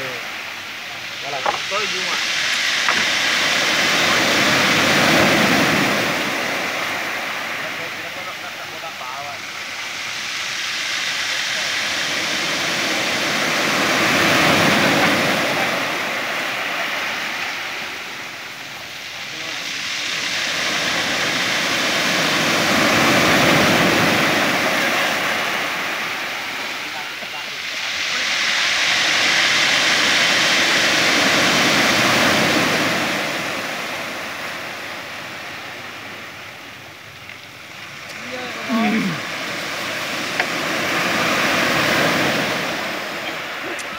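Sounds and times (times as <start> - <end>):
wave breaking on a gravel beach: 0.0 - 43.9.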